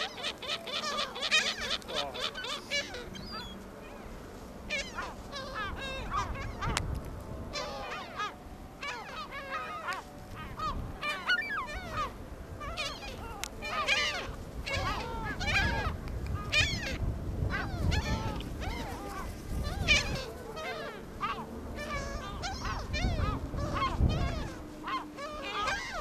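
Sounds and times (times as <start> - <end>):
seagulls calling: 0.0 - 26.0.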